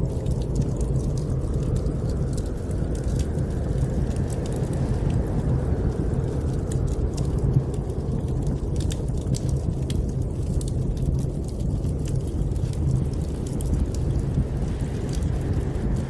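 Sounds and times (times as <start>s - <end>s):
blizzard wind rumble: 0.0s - 16.0s
wood fire crackling: 0.0s - 16.0s.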